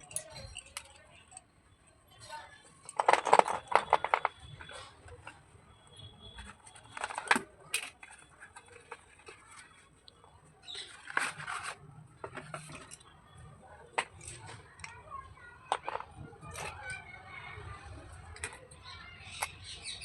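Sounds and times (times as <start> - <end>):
slate pencils clicking and rattling: 0.0 - 20.0
rustling clatter: 2.2 - 10.0, 10.6 - 19.4.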